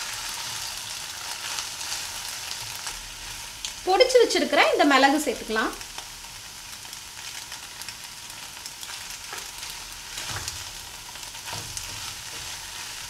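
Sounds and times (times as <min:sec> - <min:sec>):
pasta sizzling in a pan: 0:00.0 - 0:13.0.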